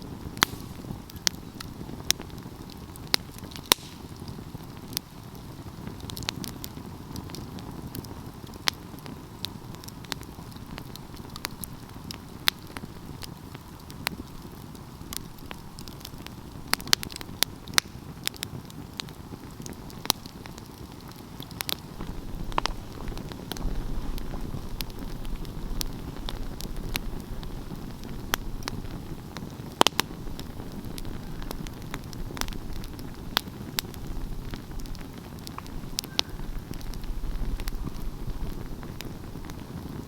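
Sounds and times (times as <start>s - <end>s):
low rumble of burning flames: 0.0s - 40.0s
wood fire popping and snapping: 0.0s - 40.0s.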